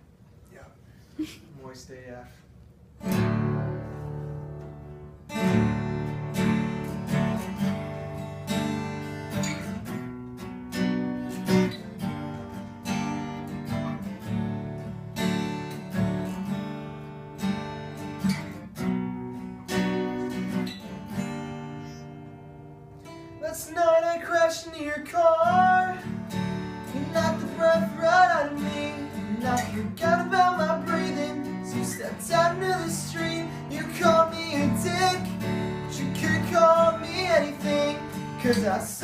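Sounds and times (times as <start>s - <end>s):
guitar strumming chords: 3.0s - 39.0s.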